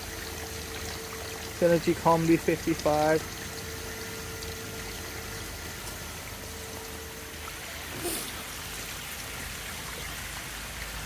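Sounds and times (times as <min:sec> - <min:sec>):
water rushing and trickling: 0:00.0 - 0:11.0.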